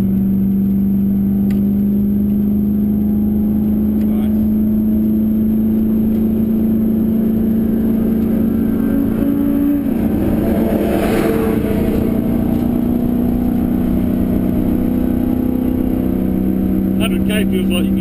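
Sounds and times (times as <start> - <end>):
race car engine running hard: 0.0 - 18.0.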